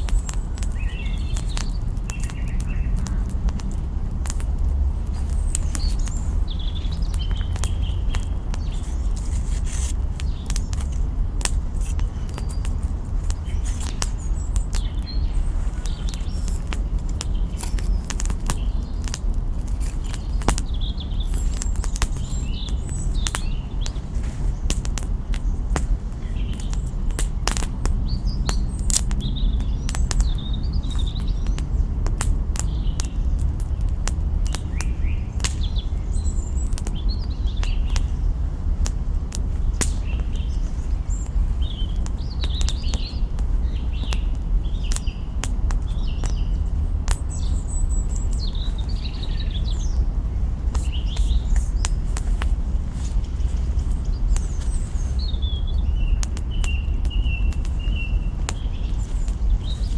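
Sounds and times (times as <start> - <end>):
campfire crackling and popping: 0.0 - 59.9
small birds chirping: 0.0 - 59.9.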